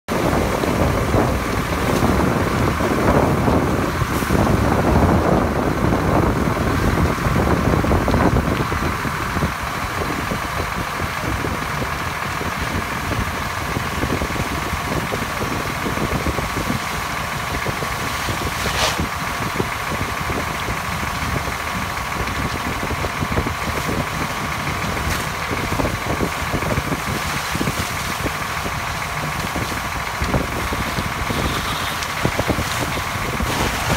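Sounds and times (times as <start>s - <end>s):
fire truck engine humming: 0.1s - 33.9s.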